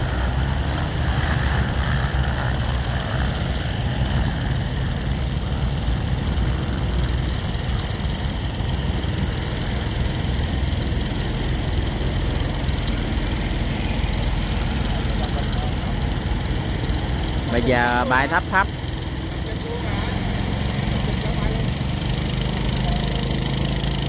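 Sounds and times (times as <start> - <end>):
drone rotors whirring: 0.0 - 24.0.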